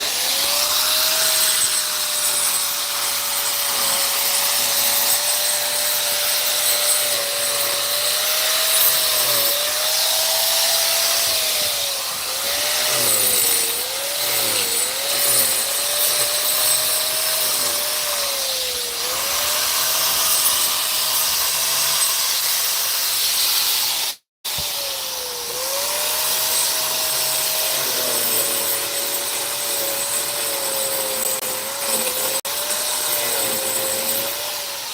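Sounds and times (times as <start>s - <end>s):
power tool motor whining: 0.0s - 34.9s.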